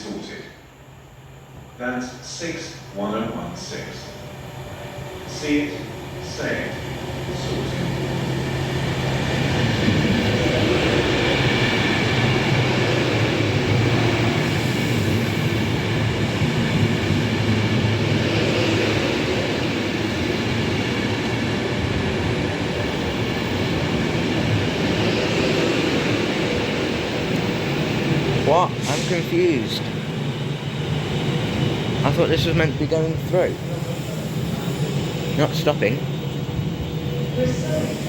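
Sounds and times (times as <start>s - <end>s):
electric train passing slowly: 0.0s - 38.0s.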